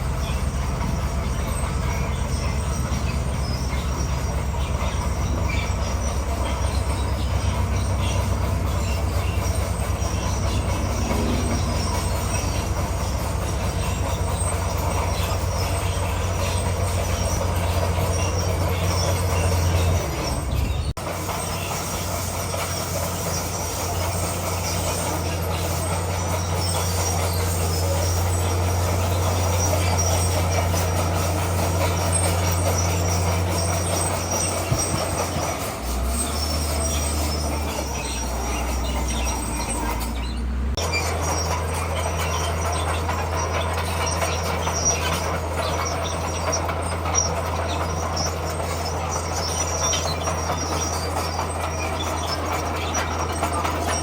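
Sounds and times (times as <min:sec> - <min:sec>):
bulldozer diesel engine running: 0:00.0 - 0:54.0
crawler track noise: 0:00.0 - 0:54.0.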